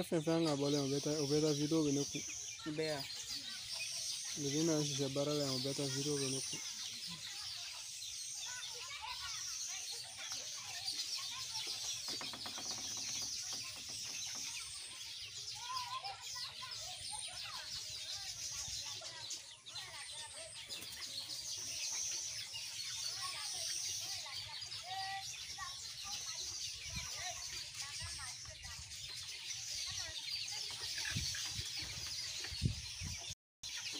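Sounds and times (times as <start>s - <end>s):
chickens cheeping and clucking: 0.0s - 33.9s.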